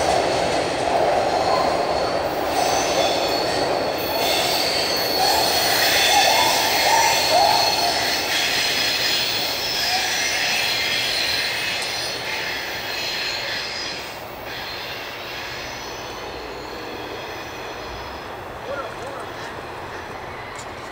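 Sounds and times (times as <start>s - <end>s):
train wheels squealing: 0.6s - 18.5s.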